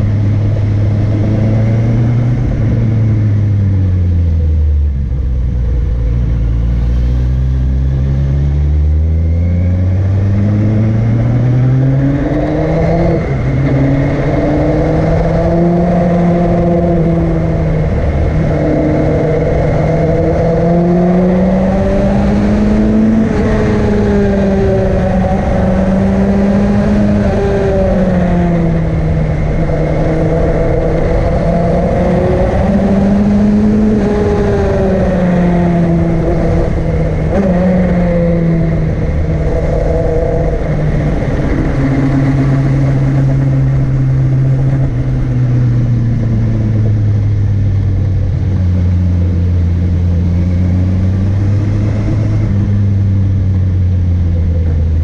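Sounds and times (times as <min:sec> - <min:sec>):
vehicle engine pulling uphill: 0:00.0 - 0:55.0.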